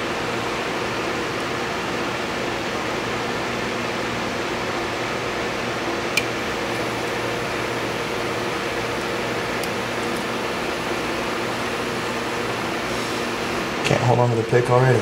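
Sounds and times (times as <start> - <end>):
steady hiss and hum: 0.0 - 15.0.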